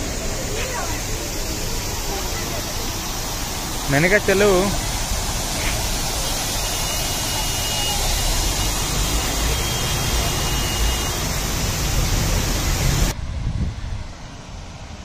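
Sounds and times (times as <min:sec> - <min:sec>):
water rushing through sluice gates: 0:00.0 - 0:13.2.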